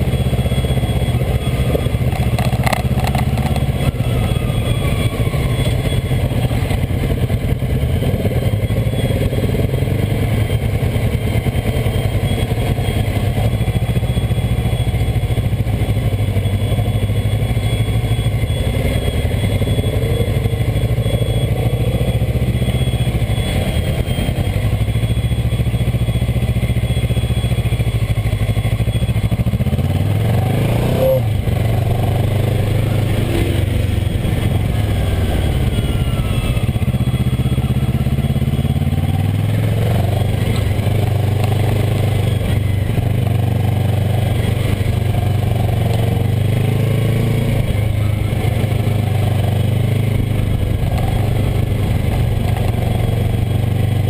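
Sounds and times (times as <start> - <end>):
motorcycle engine at low revs: 0.0 - 54.0.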